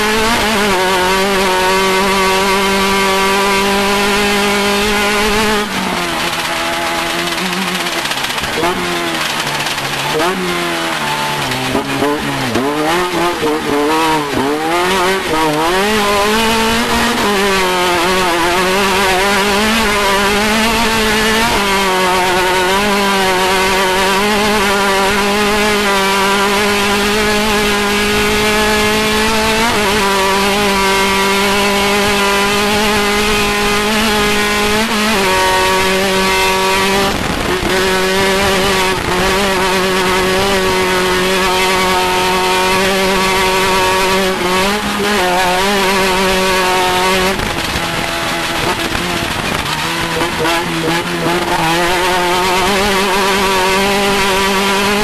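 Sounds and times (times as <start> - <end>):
race vehicle engine revving high: 0.0 - 55.0.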